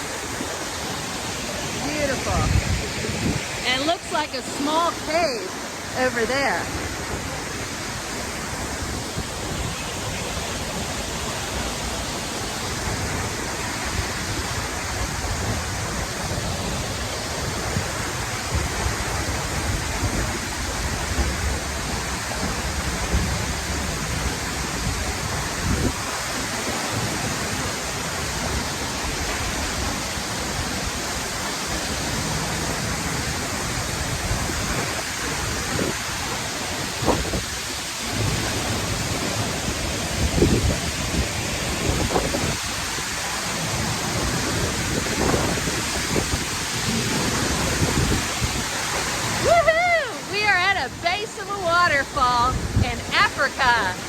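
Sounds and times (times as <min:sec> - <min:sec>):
waterfall crashing onto rocks: 0:00.0 - 0:54.0.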